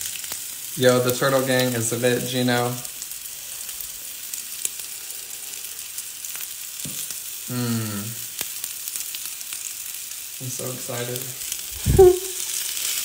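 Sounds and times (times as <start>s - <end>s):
meatballs sizzling in oil: 0.0s - 13.0s
oil popping and crackling: 0.0s - 13.0s.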